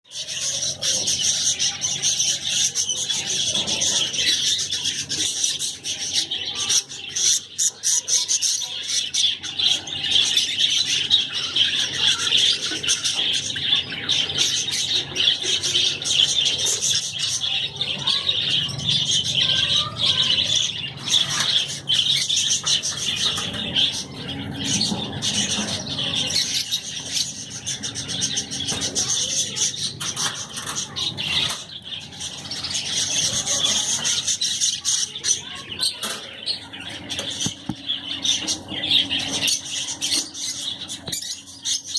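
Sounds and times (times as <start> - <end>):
small parrots twittering: 0.1 - 41.9.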